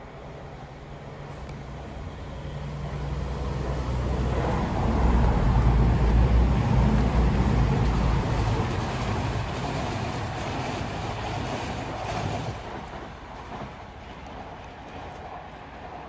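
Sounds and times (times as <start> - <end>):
diesel train passing: 0.0 - 16.0.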